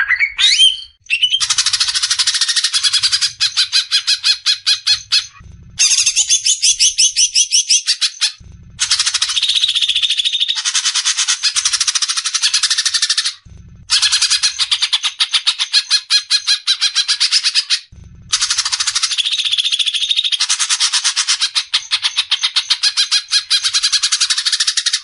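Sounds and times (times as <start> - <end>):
bird rapid rattling call: 1.4 - 25.0.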